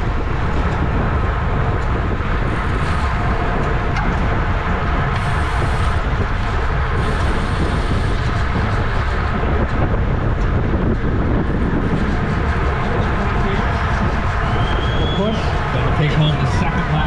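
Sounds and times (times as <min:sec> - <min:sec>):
bicycle tyre and drivetrain noise: 0:00.0 - 0:17.0
wind roaring over microphone: 0:00.0 - 0:17.0.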